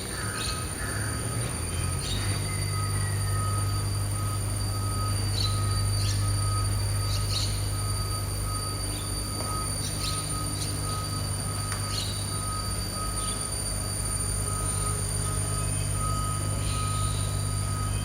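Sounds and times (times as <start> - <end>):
hydraulic compactor humming: 0.0 - 18.0.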